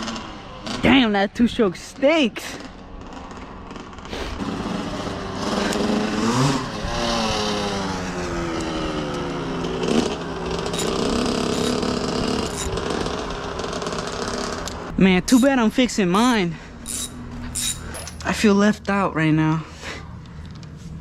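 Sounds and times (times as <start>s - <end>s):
two-stroke motorcycle revving: 0.0s - 17.9s.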